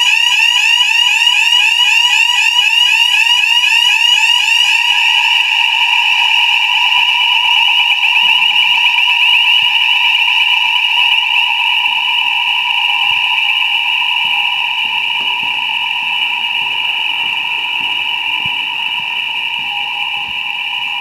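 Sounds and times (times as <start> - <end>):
fire alarm sounder: 0.0 - 21.0.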